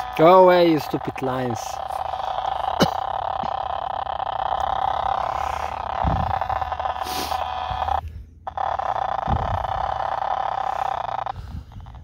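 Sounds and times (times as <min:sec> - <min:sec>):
tv static buzzing hiss: 0:00.0 - 0:11.3.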